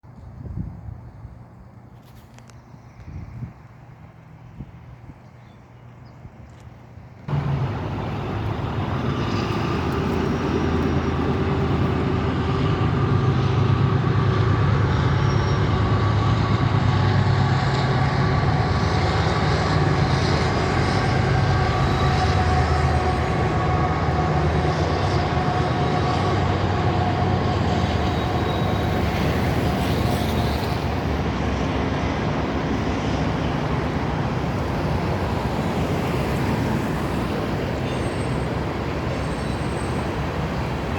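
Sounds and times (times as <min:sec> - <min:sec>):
diesel locomotive engine rumble: 0:07.0 - 0:40.9.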